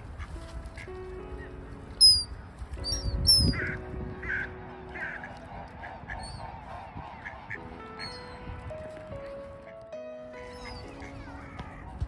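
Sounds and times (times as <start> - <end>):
birds calling: 0.0 - 12.0
faint background music: 0.0 - 12.0.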